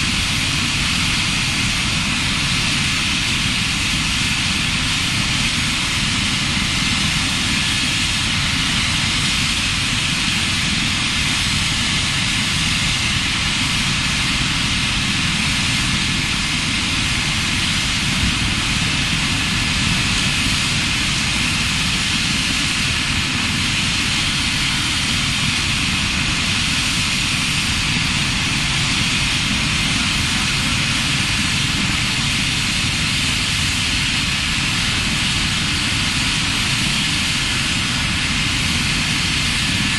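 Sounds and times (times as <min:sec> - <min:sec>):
helicopter turbine engine running: 0:00.0 - 0:39.9.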